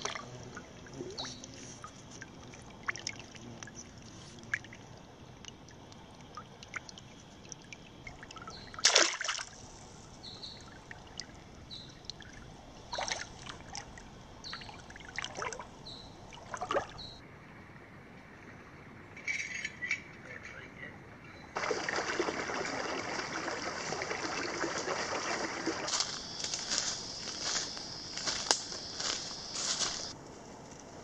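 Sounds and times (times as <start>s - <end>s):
water trickling over gravel: 0.0s - 17.1s, 21.6s - 30.2s
water splashes: 0.0s - 17.2s, 21.6s - 30.2s.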